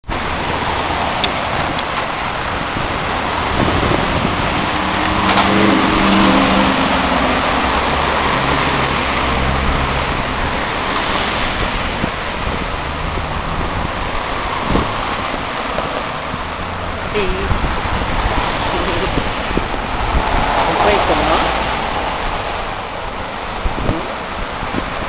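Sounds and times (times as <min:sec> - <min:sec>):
wind roaring over microphone: 0:00.0 - 0:25.0
passing vehicle engine hum: 0:00.1 - 0:25.0.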